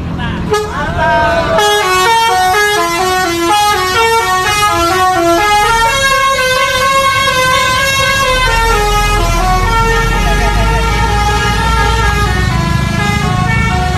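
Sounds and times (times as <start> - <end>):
bus musical horn tune: 0.3 - 13.9.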